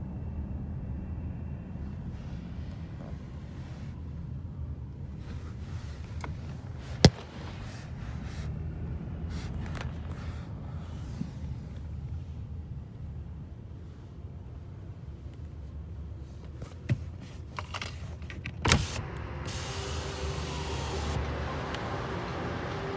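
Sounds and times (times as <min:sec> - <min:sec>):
low rumble of vehicles: 0:00.0 - 0:22.9.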